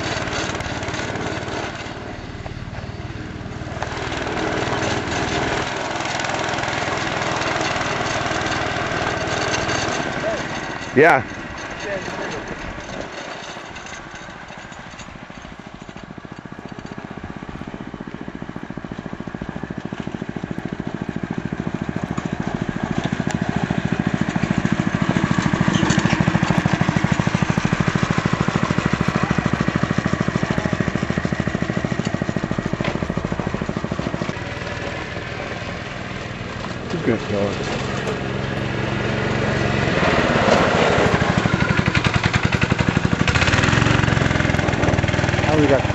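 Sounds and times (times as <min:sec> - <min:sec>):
go-kart engine running: 0:00.0 - 0:45.9.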